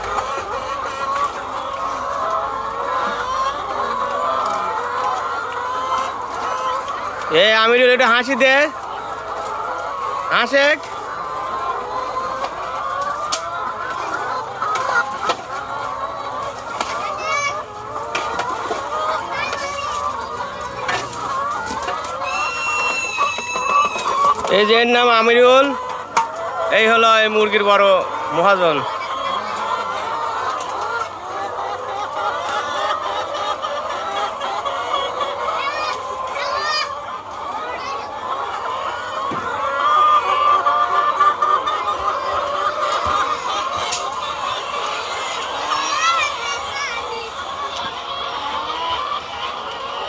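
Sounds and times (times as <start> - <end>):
hens clucking and calling: 0.0 - 50.0.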